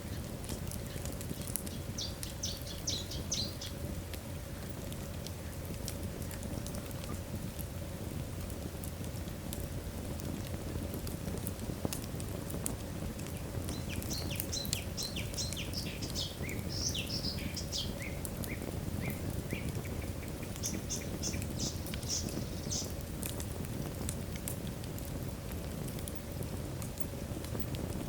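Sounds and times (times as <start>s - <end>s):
fire crackling and popping: 0.0s - 28.0s
wood fire low rumble: 0.0s - 28.0s.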